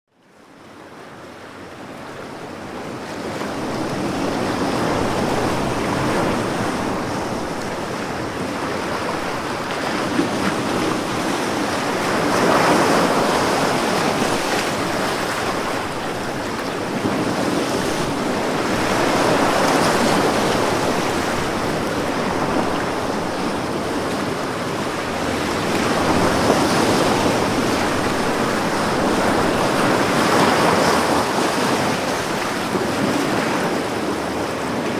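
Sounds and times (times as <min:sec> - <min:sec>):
ocean waves breaking on beach: 0:00.3 - 0:34.9.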